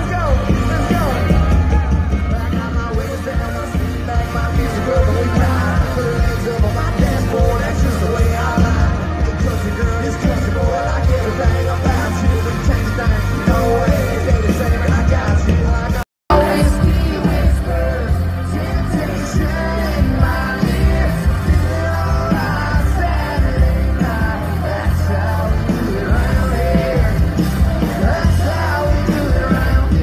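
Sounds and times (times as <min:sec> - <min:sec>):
heavy bass and drums: 0:00.0 - 0:30.0
lead singer: 0:00.0 - 0:30.0
live country band playing: 0:00.0 - 0:30.0.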